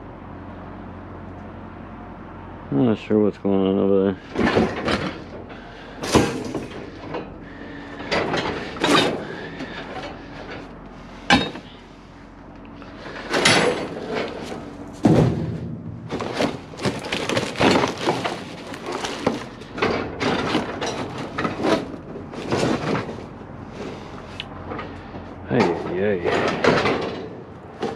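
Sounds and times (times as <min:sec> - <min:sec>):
scrap metal clanking: 0:04.2 - 0:12.2, 0:12.8 - 0:27.9.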